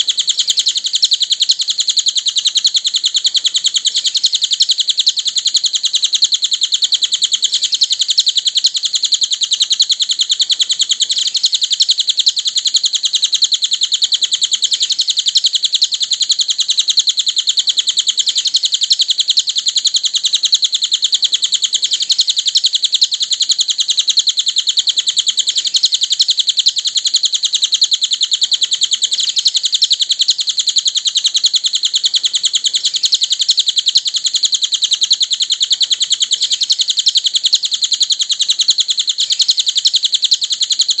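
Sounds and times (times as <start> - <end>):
songbird twittering: 0.0 - 41.0.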